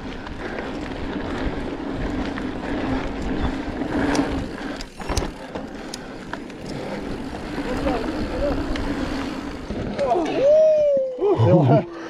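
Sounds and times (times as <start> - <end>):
steady bike buzz: 0.0 - 10.8
tyres rolling on dirt: 0.0 - 10.8
bike rattles and clicks: 0.0 - 11.8.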